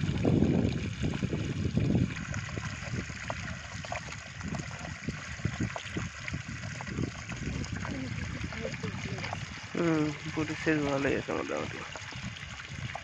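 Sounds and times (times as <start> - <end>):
water trickling down mud channel: 0.0 - 13.0.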